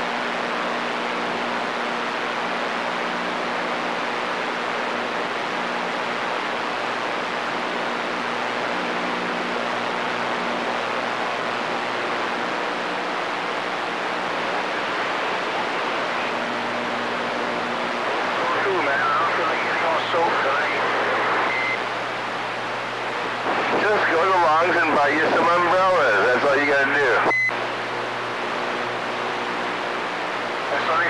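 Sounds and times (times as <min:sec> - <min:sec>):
radio static hiss: 0:00.0 - 0:31.0.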